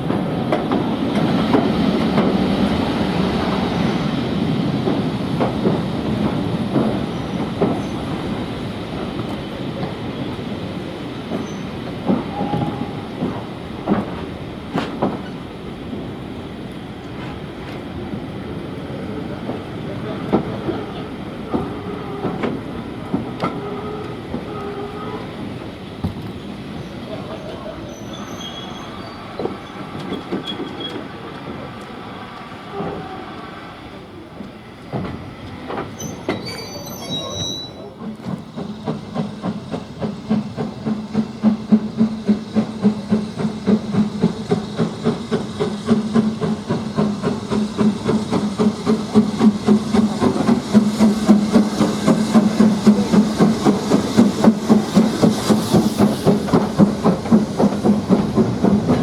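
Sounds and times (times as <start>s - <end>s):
train running: 0.0s - 59.0s.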